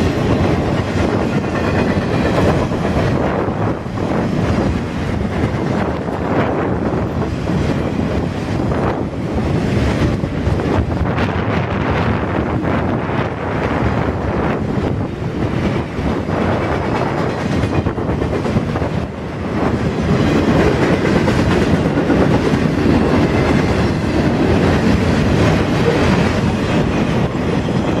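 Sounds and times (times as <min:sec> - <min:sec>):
clickety-clack over rail joints: 0:00.0 - 0:28.0
train wheels rumbling: 0:00.0 - 0:28.0.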